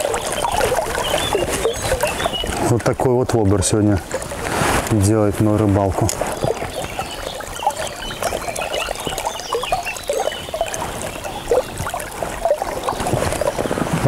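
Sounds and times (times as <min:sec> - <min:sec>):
small splashes and plops: 0:00.0 - 0:14.0
water lapping against hull: 0:00.0 - 0:14.0.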